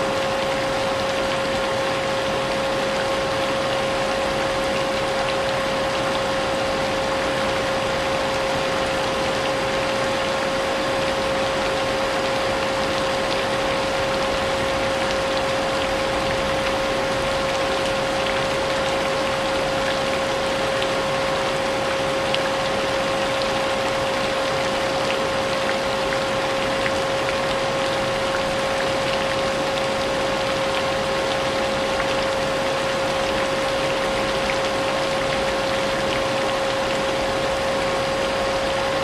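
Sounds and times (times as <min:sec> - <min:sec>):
rain: 0:00.0 - 0:39.0.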